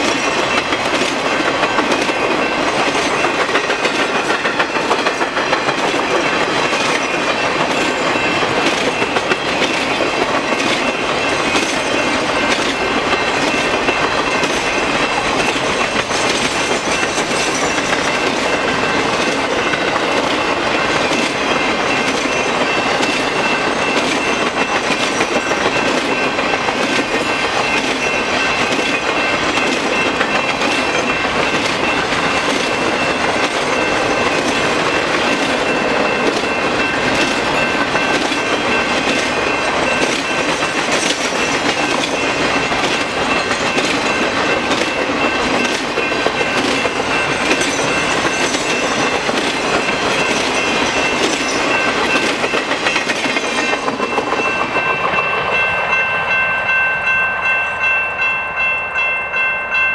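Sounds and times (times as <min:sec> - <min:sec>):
rail wheels clattering over track: 0:00.0 - 0:59.9.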